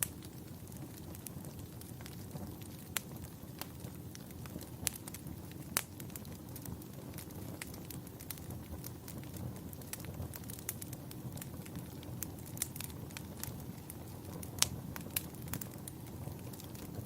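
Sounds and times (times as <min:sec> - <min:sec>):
campfire crackling and popping: 0:00.0 - 0:17.0
sharp snap of burning wood: 0:00.0 - 0:17.0.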